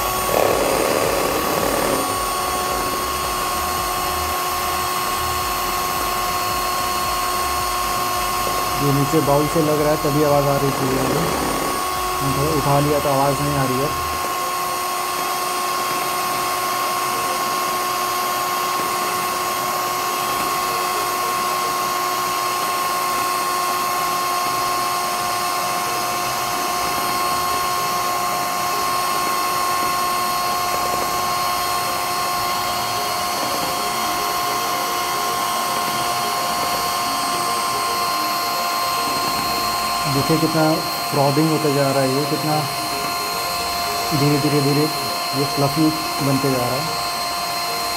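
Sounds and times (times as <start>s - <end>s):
electric hand mixer whining: 0.0s - 47.9s.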